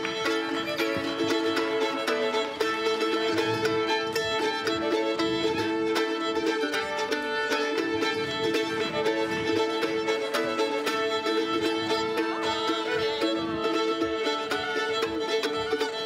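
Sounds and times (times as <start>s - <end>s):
fiddles playing a tune: 0.0s - 16.0s
plucked-string rhythm: 0.0s - 16.0s.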